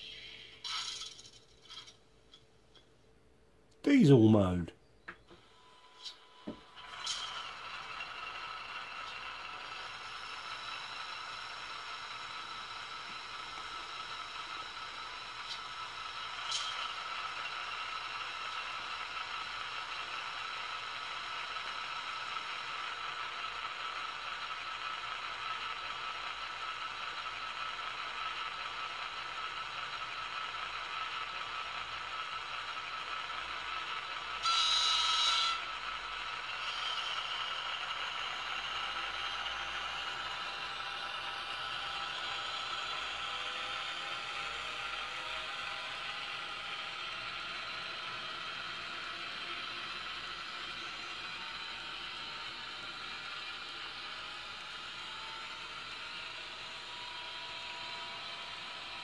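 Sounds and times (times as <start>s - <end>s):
diesel locomotive humming: 5.5s - 59.0s.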